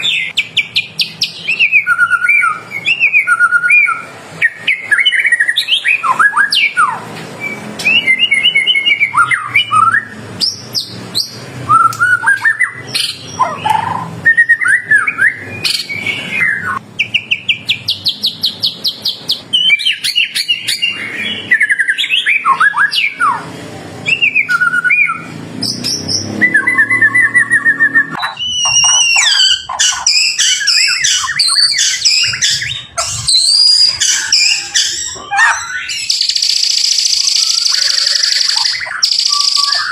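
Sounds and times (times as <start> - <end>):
bird singing whistled phrases: 0.0 - 23.4, 24.0 - 39.9.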